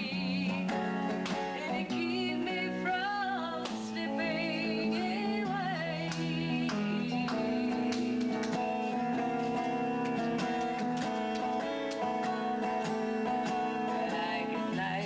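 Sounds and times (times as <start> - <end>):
guitar: 0.0 - 15.0
person singing: 0.0 - 15.0.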